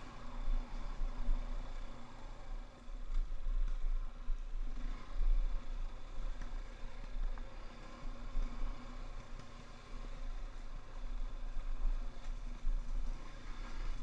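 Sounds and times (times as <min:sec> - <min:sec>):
motorcycle engine running: 0:00.0 - 0:14.0
rumble of wind and bumps: 0:00.0 - 0:14.0.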